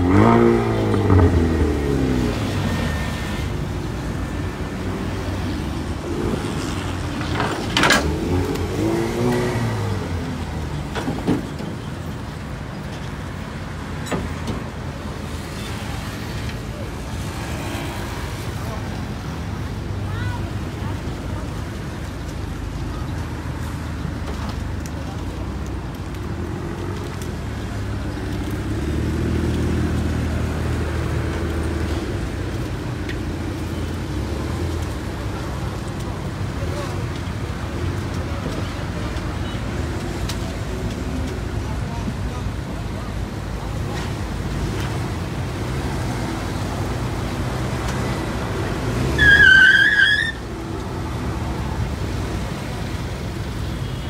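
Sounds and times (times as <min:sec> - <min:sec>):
motorbikes running: 0:00.0 - 0:49.4.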